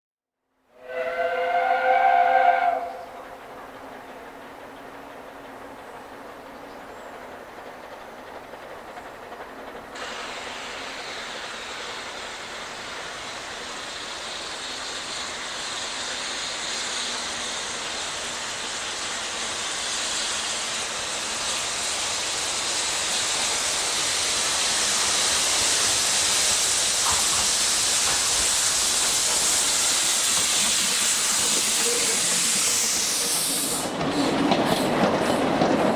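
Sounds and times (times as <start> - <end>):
steam hissing: 0.8 - 35.9
train rumbling and clattering: 1.4 - 35.9.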